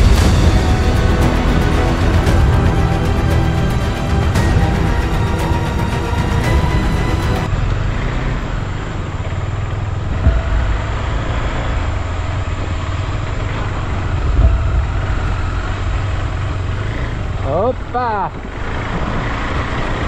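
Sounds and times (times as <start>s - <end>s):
heavy low rumble: 0.0s - 18.7s.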